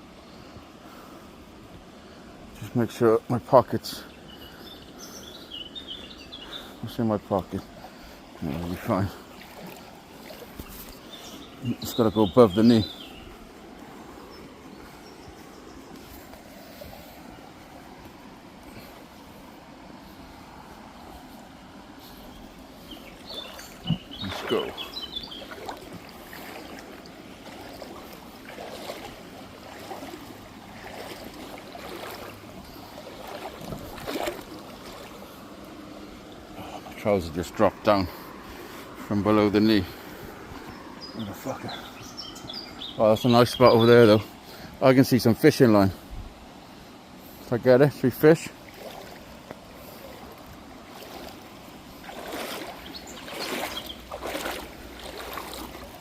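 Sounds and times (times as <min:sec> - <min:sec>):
legs wading through water: 0:00.0 - 0:56.0
river flowing: 0:00.0 - 0:56.0
stream rushing: 0:00.0 - 0:56.0.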